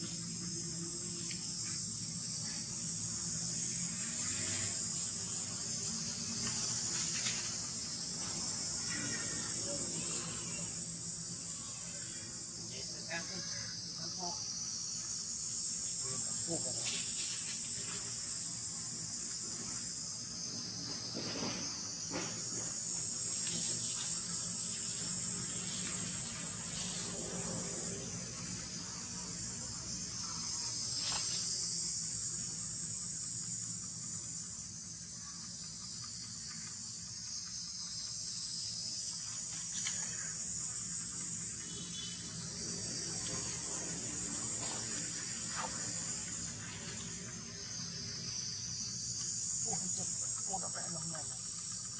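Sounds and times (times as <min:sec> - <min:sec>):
insect chorus drone: 0:00.0 - 0:51.9.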